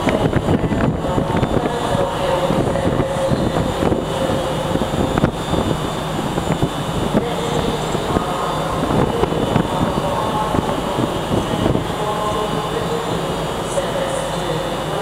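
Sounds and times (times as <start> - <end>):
faint steady hum: 0.0 - 15.0
trains rumbling: 0.0 - 15.0.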